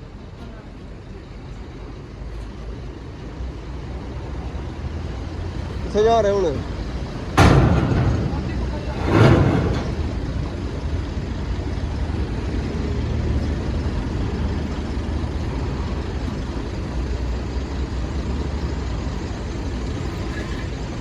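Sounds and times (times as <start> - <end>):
heavy truck engine running: 0.0 - 21.0.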